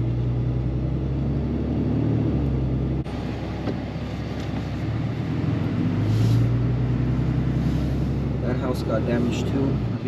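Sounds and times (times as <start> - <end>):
pickup truck engine hum: 0.0 - 10.0
road noise inside cab: 0.0 - 10.0.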